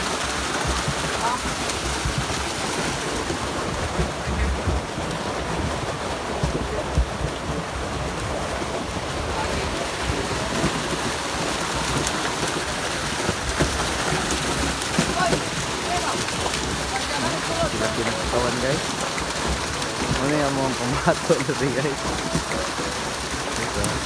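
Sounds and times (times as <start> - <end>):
water lapping and splashing: 0.0 - 24.0.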